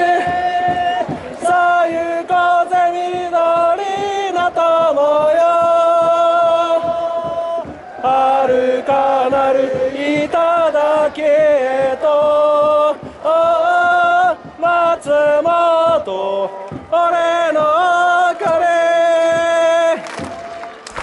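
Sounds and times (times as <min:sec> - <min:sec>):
crowd chanting in unison: 0:00.0 - 0:21.0.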